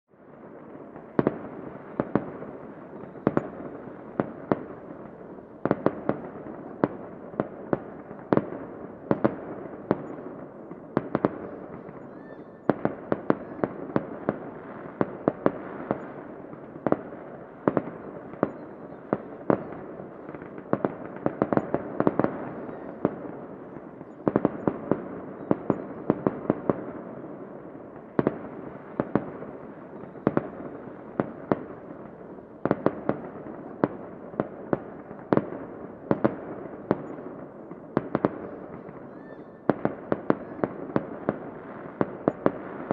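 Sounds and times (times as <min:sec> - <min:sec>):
fireworks bangs and pops: 0:00.4 - 0:42.9
fireworks crackling: 0:00.4 - 0:42.9.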